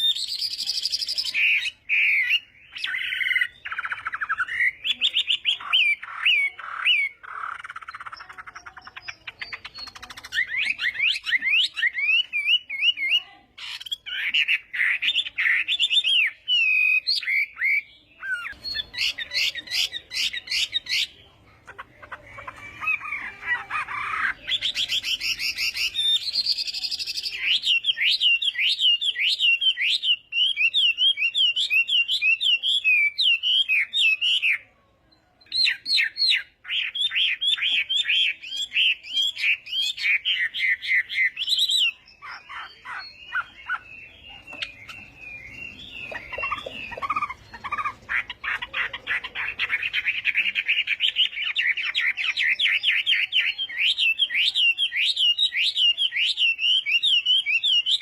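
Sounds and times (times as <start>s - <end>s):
bird singing whistled notes: 0.0s - 21.2s, 23.9s - 34.6s, 35.4s - 58.0s.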